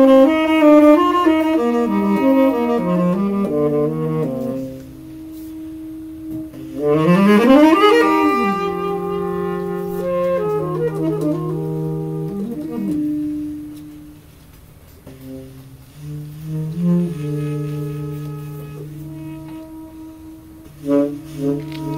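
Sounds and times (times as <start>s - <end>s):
saxophones playing in harmony: 0.0s - 21.9s.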